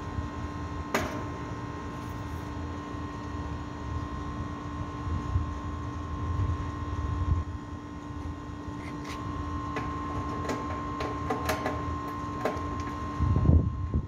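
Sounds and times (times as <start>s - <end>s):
machine hum with low rumble: 0.0s - 14.0s.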